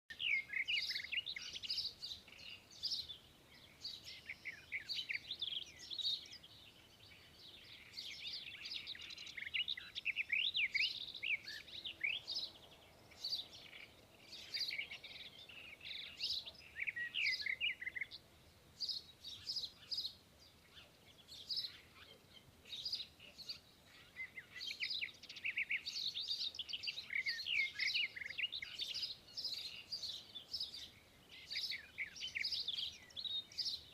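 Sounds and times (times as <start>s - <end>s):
sparrows chirping: 0.1s - 33.9s.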